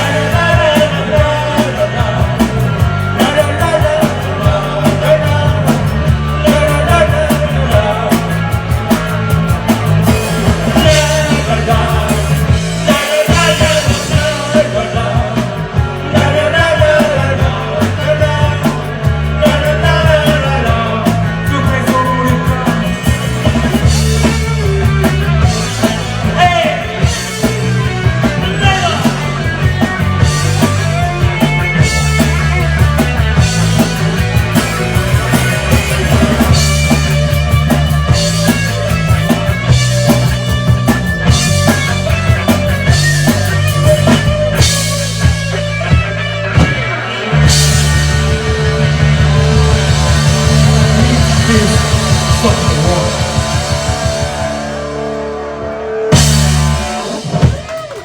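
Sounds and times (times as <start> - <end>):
rock band with singer: 0.0 - 58.0.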